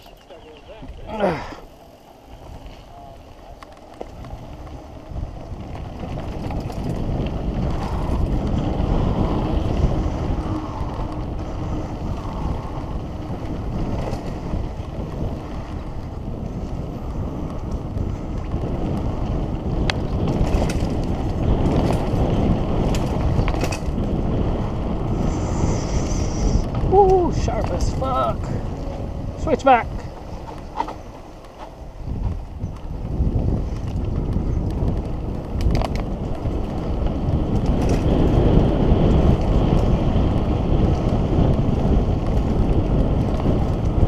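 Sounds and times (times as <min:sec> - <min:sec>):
bike rattling over bumps: 0:00.0 - 0:44.0
tyres rumbling on dirt trail: 0:00.0 - 0:44.0
wind rushing over microphone: 0:00.0 - 0:44.0.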